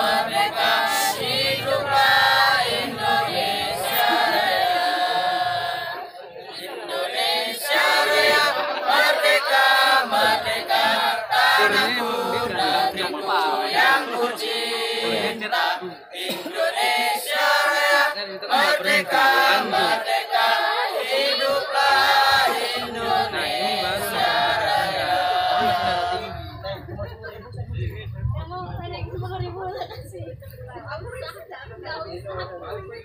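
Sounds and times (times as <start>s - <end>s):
group singing in unison: 0.0s - 26.6s.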